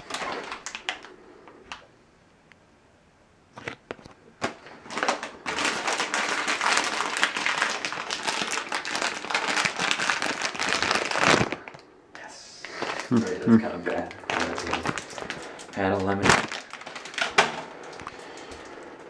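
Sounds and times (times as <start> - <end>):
foil candy bag crinkling: 0.0 - 1.8, 3.6 - 11.9, 12.6 - 19.0.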